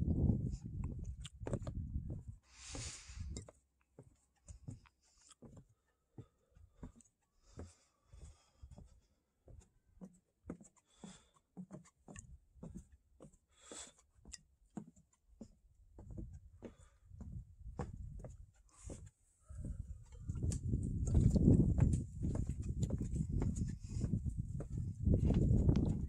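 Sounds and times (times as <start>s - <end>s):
faint footsteps on a trail: 0.0s - 26.0s.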